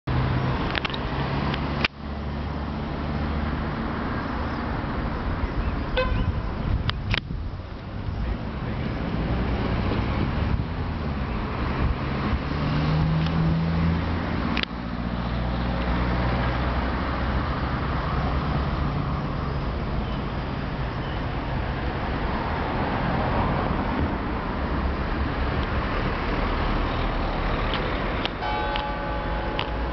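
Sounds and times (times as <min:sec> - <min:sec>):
road traffic: 0:00.0 - 0:29.9.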